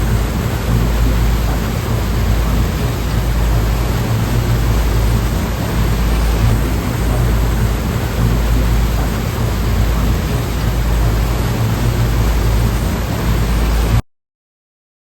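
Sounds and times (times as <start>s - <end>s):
sea waves and surf: 0.0s - 14.0s.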